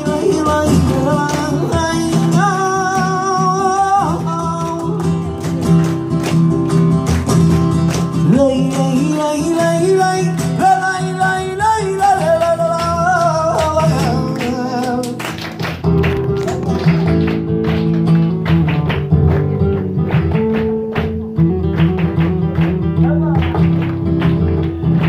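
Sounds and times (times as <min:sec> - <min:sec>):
flamenco guitar strumming: 0:00.0 - 0:25.0.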